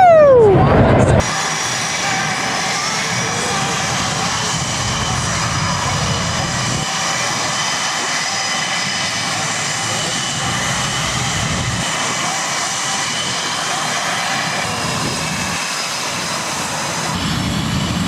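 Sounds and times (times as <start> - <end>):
high whining engine tones: 0.0 - 18.0
jet engines roaring: 0.0 - 18.0.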